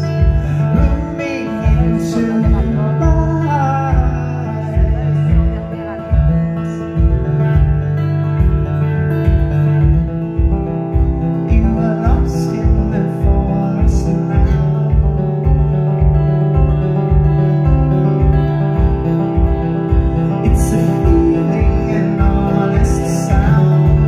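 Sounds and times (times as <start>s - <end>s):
acoustic guitar strumming: 0.0s - 24.0s
bass drum beating: 0.0s - 24.0s.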